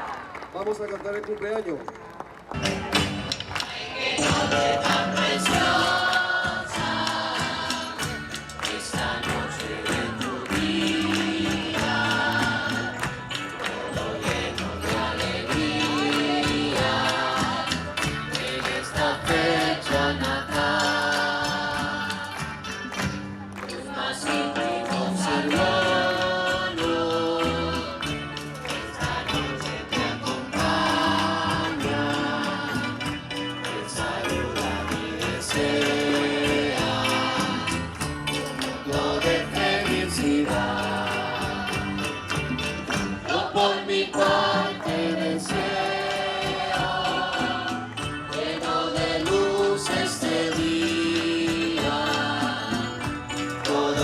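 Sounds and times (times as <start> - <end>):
rapid shaking percussion: 2.6 - 54.0
group singing religious music: 3.5 - 54.0.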